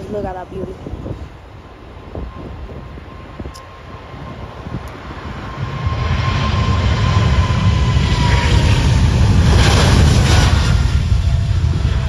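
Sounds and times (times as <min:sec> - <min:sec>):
jet engines roaring: 0:00.0 - 0:12.0
thin engine whine: 0:02.0 - 0:12.0.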